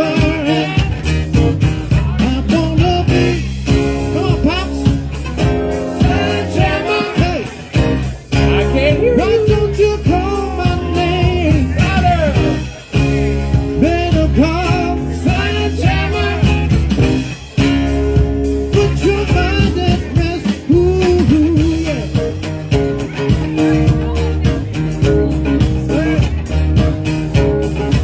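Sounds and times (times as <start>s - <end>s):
bending lead melody: 0.0s - 28.0s
drums: 0.0s - 28.0s
heavy bass line: 0.0s - 28.0s
rock band playing: 0.0s - 28.0s.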